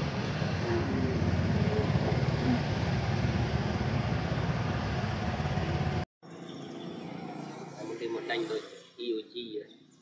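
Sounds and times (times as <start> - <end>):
vehicle engine rumbling: 0.0 - 8.8
outdoor background: 0.0 - 10.0.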